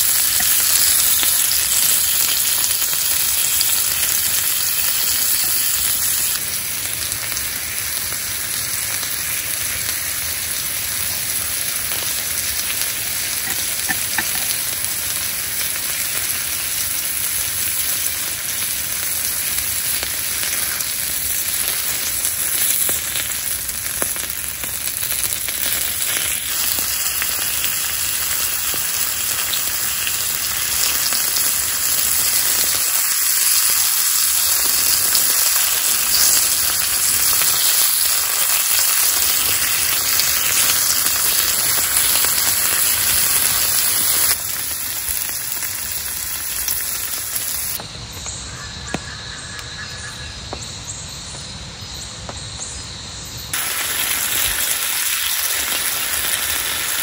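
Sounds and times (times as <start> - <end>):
meat sizzling on a grill plate: 0.0 - 47.8, 53.5 - 57.0.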